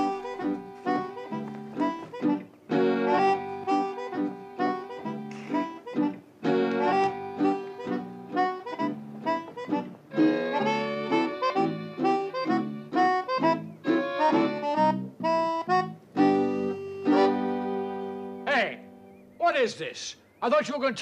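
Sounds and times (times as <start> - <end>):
harmonica music: 0.0 - 19.5.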